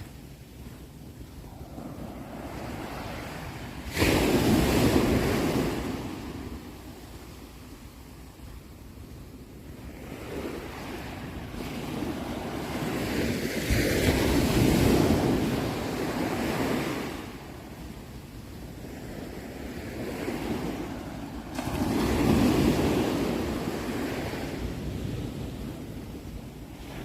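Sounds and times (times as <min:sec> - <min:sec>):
ocean waves breaking: 0:00.0 - 0:08.1, 0:09.7 - 0:27.0.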